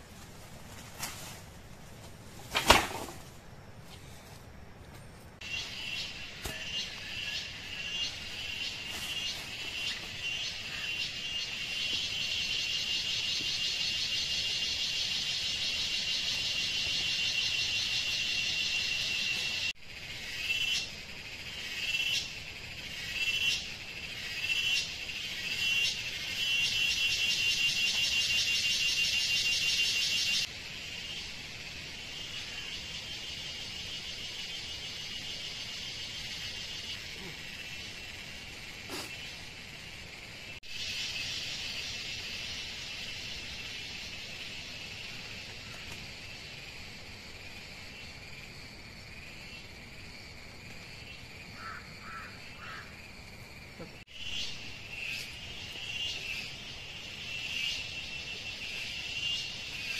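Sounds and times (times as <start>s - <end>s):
insects trilling: 5.4s - 59.9s.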